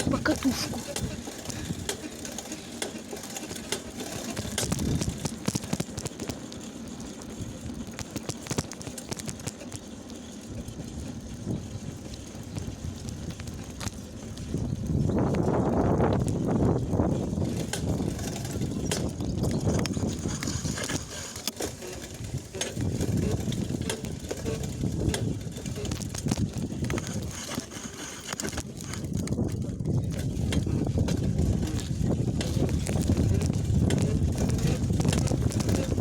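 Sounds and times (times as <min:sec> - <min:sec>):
wind rumble on microphone: 0:00.0 - 0:02.0, 0:04.0 - 0:06.3, 0:10.4 - 0:36.0
bicycle pedal clicking: 0:00.0 - 0:36.0.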